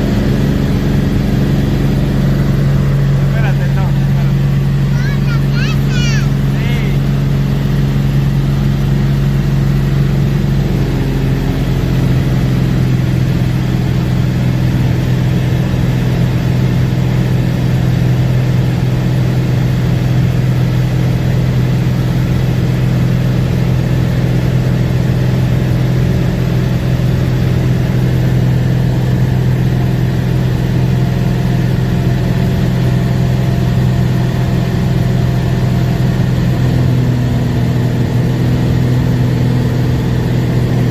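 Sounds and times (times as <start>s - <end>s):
plane engine and propeller droning: 0.0s - 40.9s.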